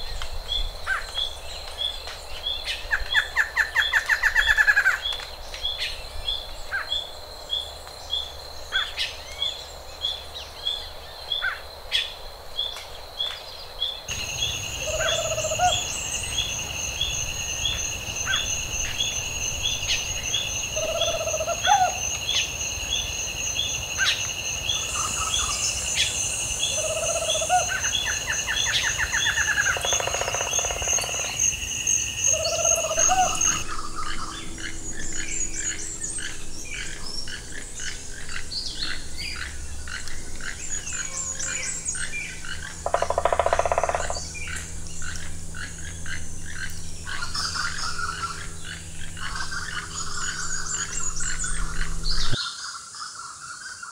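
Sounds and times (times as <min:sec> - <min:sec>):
birds calling: 0:00.0 - 0:52.9
insects trilling: 0:00.0 - 0:53.9.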